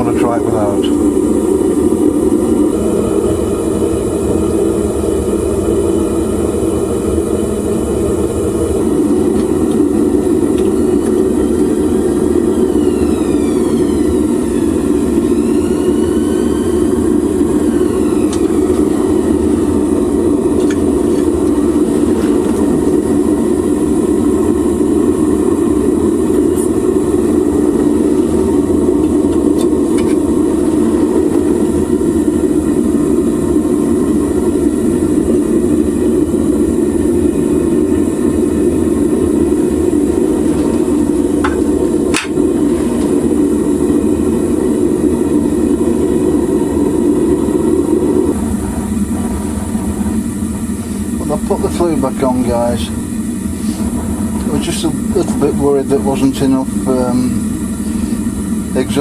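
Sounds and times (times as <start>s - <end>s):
gas burner flame rushing: 0.0s - 59.0s.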